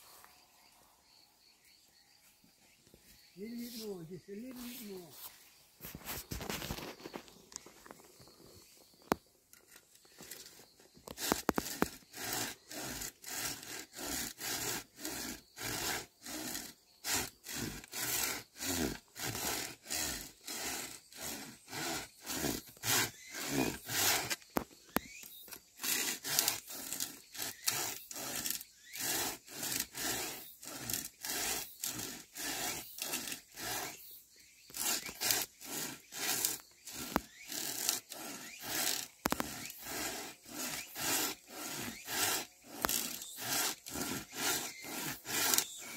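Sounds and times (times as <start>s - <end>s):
hand saw cutting bamboo: 3.5s - 5.3s, 9.6s - 45.9s.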